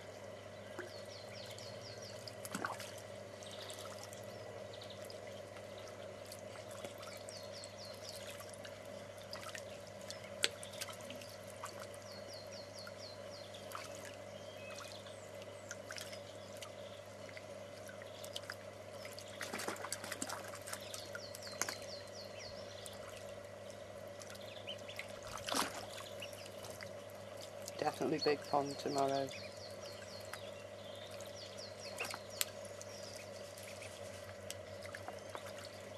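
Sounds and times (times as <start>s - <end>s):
ducklings splashing in water: 0.0s - 35.9s.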